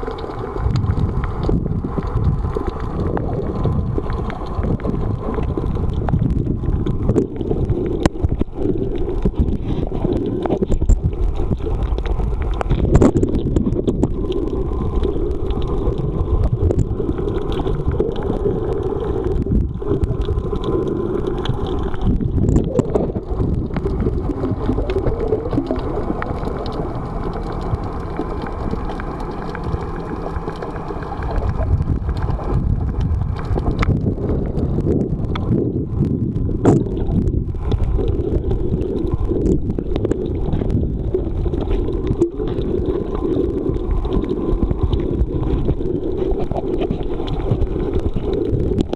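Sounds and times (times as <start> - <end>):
underwater rumble of moving water: 0.0 - 48.9.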